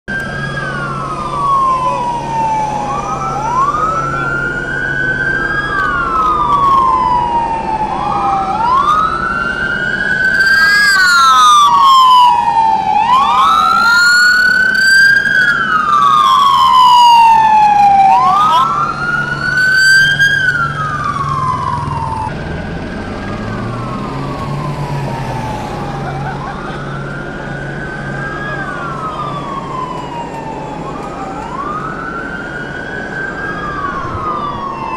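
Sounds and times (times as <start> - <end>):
police sirens wailing: 0.1 - 34.9.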